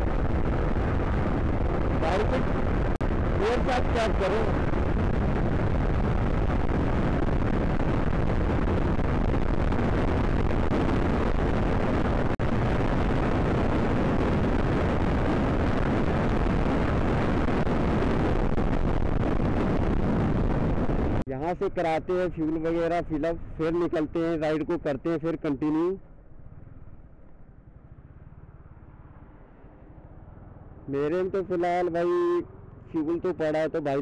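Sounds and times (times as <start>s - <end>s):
wind and road noise while riding: 0.0s - 34.0s.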